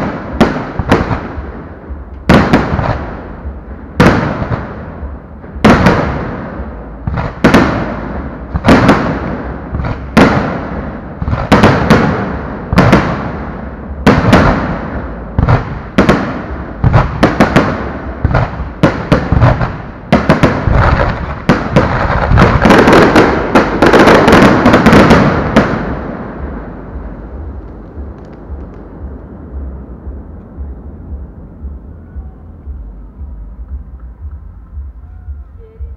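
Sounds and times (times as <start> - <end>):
fireworks bursting with loud bangs: 0.0 - 35.9.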